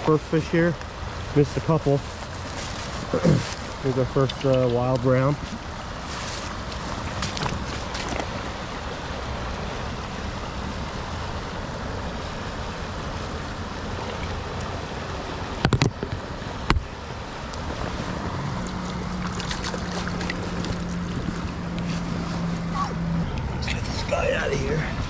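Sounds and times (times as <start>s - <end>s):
creek water flowing over riffle: 0.0s - 25.0s.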